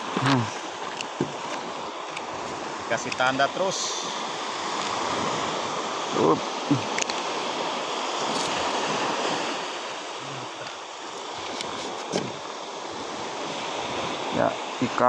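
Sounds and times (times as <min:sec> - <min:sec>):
sea surf breaking on shore: 0:00.0 - 0:15.0.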